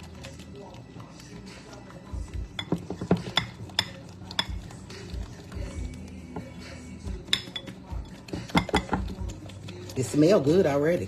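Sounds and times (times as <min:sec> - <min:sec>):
background music: 0:00.0 - 0:11.0
utensil clinking against bowl: 0:00.1 - 0:10.6.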